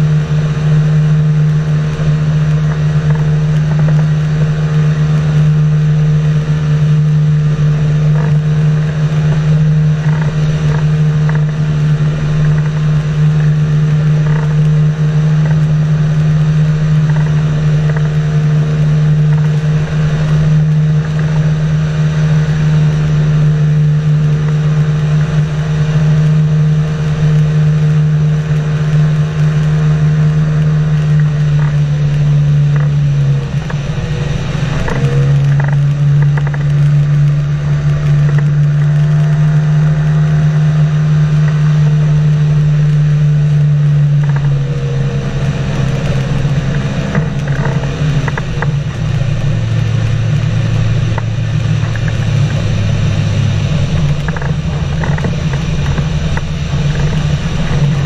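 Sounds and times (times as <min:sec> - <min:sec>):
aircraft engine and propeller droning: 0:00.0 - 0:58.0.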